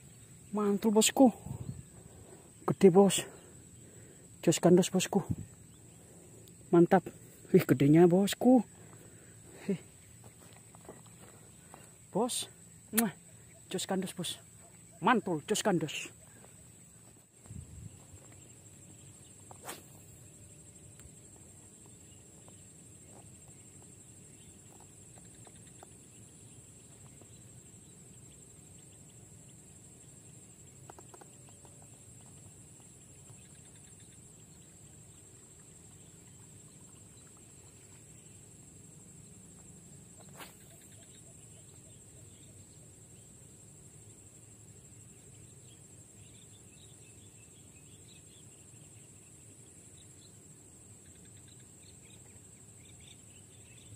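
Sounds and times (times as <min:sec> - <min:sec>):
high-pitched insect drone: 0:00.0 - 0:53.9.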